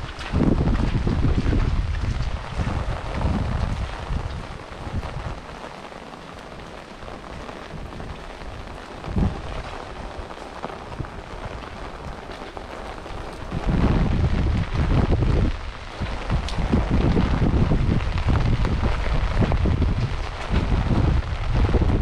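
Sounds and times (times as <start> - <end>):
rain on hard surfaces: 0.0 - 22.0.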